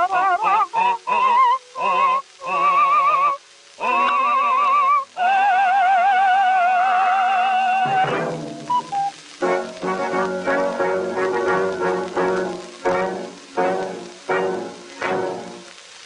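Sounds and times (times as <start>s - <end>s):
operatic singing with vibrato: 0.0s - 15.6s.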